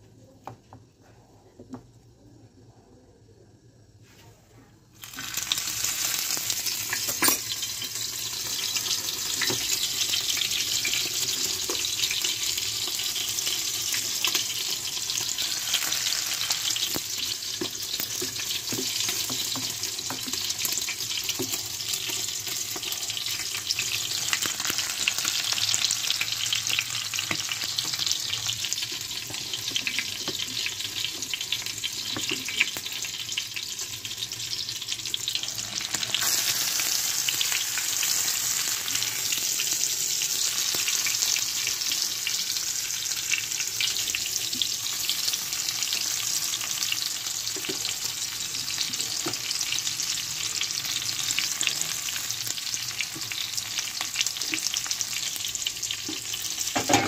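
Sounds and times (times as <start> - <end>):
chicken frying in hot oil: 5.0 - 57.0.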